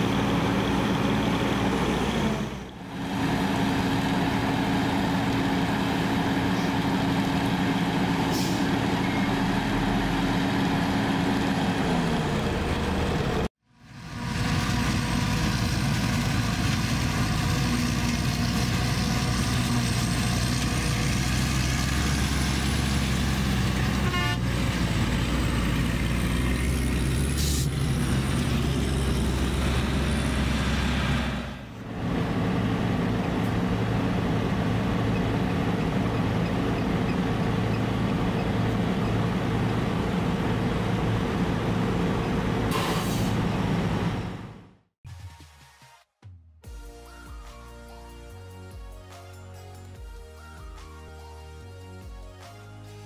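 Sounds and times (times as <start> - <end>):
forage harvester droning: 0.0 - 44.7
truck engine drone: 0.0 - 44.9.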